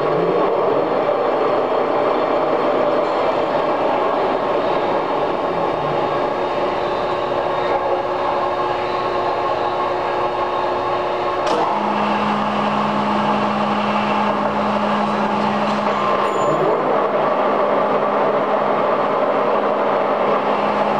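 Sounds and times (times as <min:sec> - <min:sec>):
lathe headstock gears running: 0:00.0 - 0:20.9
steady machine hum: 0:00.0 - 0:20.9.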